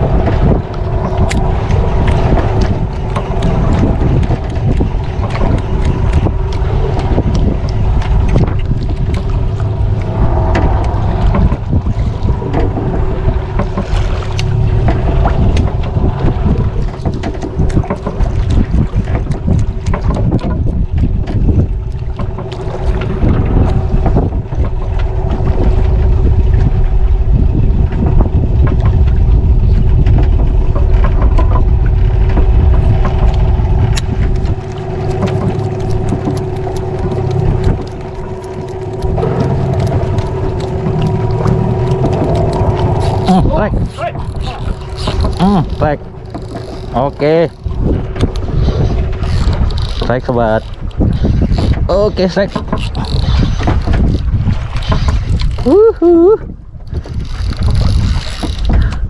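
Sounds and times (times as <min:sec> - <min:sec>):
boat engine idling: 0:00.0 - 0:59.0
wind buffeting microphone: 0:00.0 - 0:59.0.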